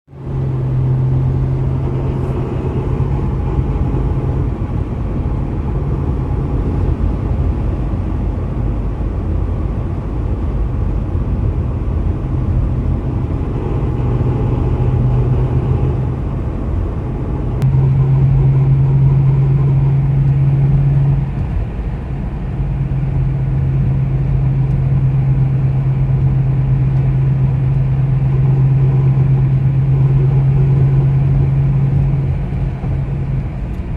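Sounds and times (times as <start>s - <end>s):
car road rumble: 0.1s - 33.9s
low hum: 0.1s - 33.9s.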